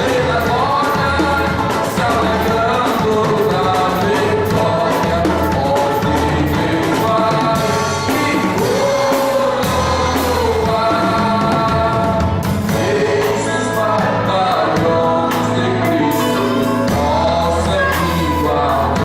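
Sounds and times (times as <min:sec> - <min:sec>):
drums and cymbals: 0:00.0 - 0:19.0
voices singing gospel music: 0:00.0 - 0:19.0.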